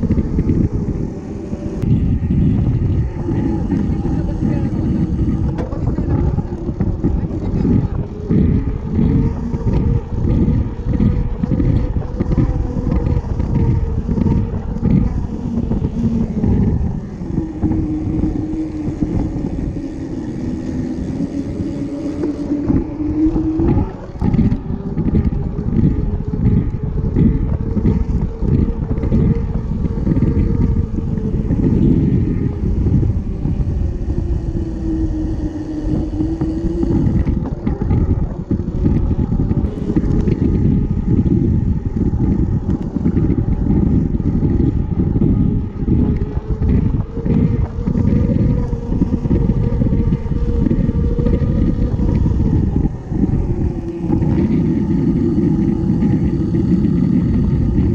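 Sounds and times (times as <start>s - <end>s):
road rumble: 0.0s - 57.9s
steady hum: 0.0s - 57.9s
wind buffeting microphone: 0.0s - 57.9s.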